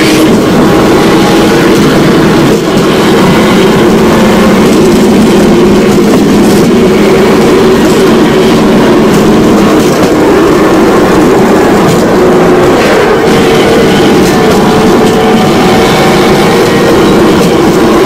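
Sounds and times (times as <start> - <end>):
motorcycle engine droning: 0.0 - 18.0
wheels rolling on rails: 0.0 - 18.0.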